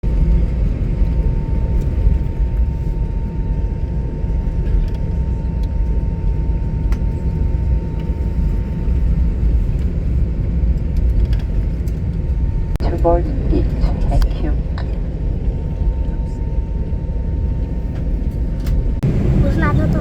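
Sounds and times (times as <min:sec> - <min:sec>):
vehicle rumble in motion: 0:00.0 - 0:20.0.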